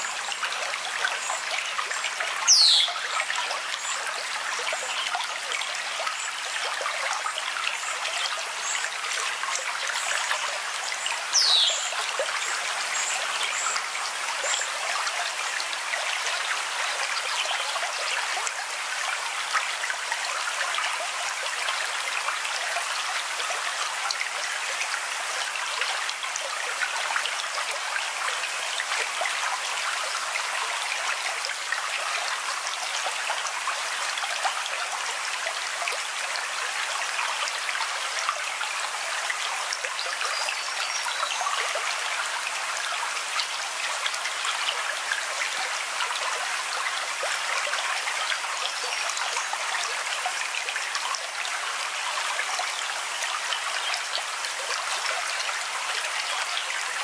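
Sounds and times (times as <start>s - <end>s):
stream running water: 0.0s - 57.0s.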